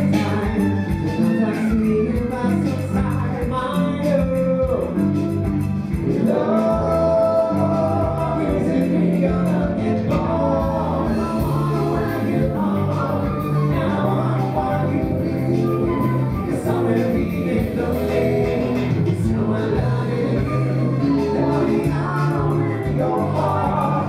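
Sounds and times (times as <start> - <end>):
live band dance music: 0.0 - 24.0
person singing: 0.0 - 24.0.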